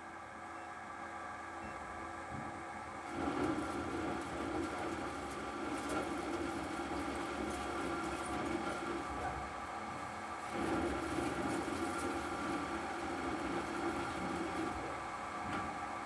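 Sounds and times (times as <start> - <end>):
lathe spindle humming: 2.8 - 16.0.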